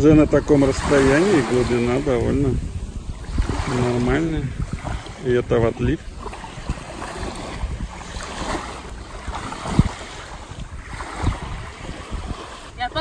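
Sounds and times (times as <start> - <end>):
legs wading through sea water: 0.0 - 13.0
wind buffeting microphone: 0.0 - 13.0.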